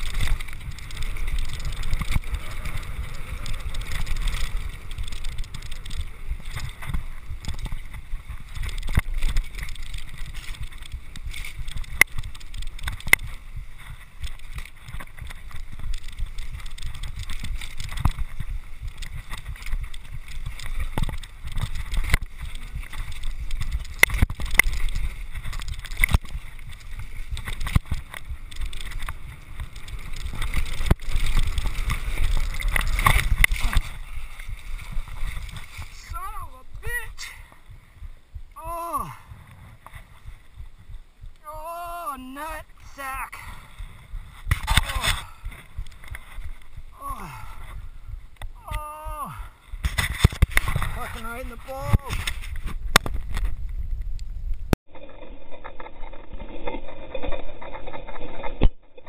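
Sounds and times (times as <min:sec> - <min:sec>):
bike clicks and clatters: 0:00.0 - 0:38.2, 0:43.2 - 0:54.2, 0:54.9 - 0:59.0
wind buffeting microphone: 0:00.0 - 0:41.6, 0:42.6 - 0:54.8
tyres rolling over trail: 0:00.0 - 0:59.0.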